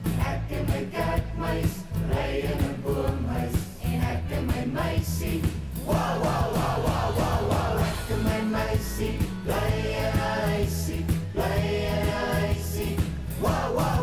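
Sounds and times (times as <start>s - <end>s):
group singing over bass and beat: 0.0s - 14.0s.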